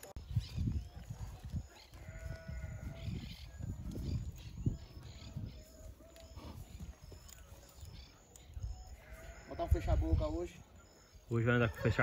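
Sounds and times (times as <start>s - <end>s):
farm animal calling: 0.2s - 12.0s.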